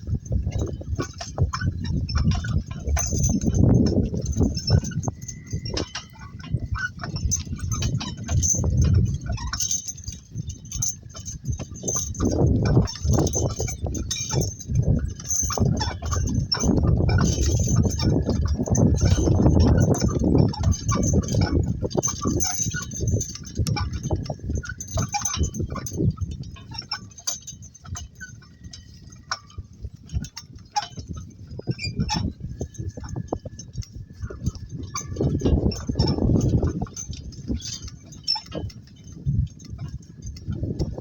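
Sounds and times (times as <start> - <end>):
cart rattling over ground: 0.0 - 41.0.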